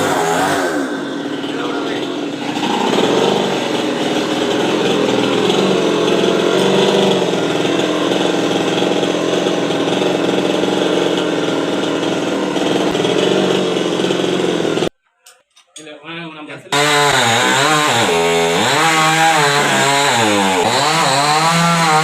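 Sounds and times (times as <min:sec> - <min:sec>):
chainsaw cutting wood: 0:00.0 - 0:14.9, 0:16.7 - 0:22.0.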